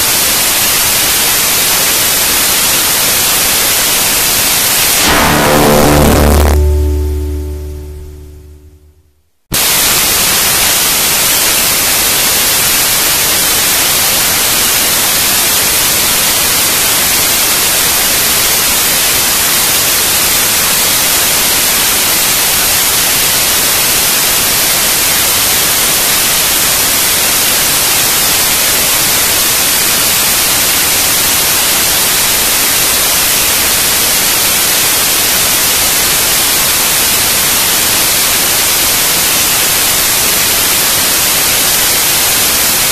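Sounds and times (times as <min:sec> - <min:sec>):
white-noise hiss: 0:00.0 - 0:08.9, 0:09.6 - 0:42.9.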